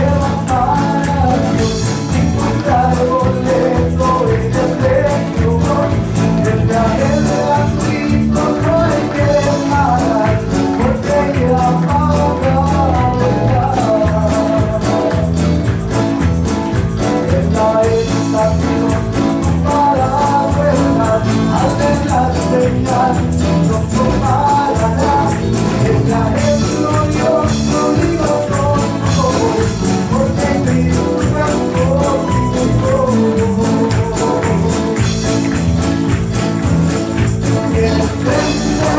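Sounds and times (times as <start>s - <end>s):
live gospel band playing: 0.0s - 38.9s.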